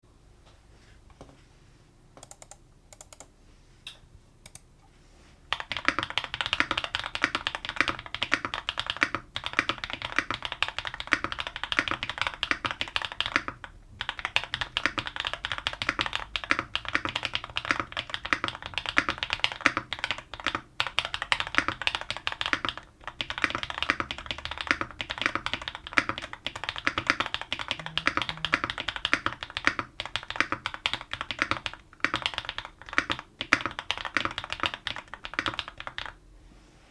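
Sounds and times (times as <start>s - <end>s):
typing on mechanical keyboard: 2.2s - 3.3s, 5.5s - 36.2s.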